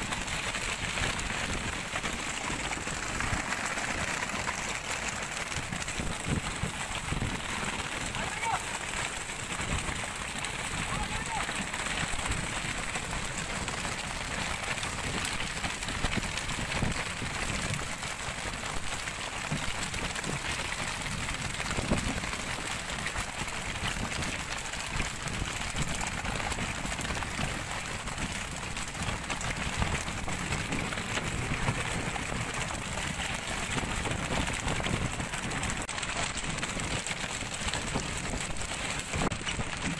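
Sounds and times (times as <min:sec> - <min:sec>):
sea water splashing: 0:00.0 - 0:39.9.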